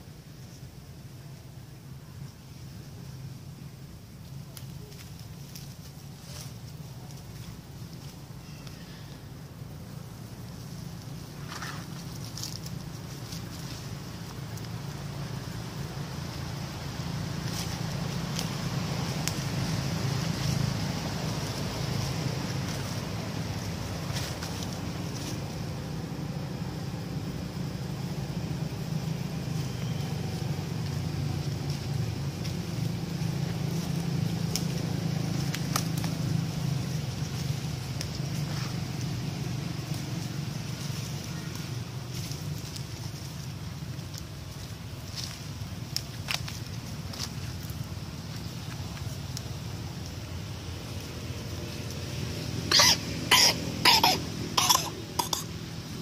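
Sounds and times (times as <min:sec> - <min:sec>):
dry leaves rustling and crackling: 0:00.0 - 0:56.0
steady low hum: 0:00.0 - 0:56.0.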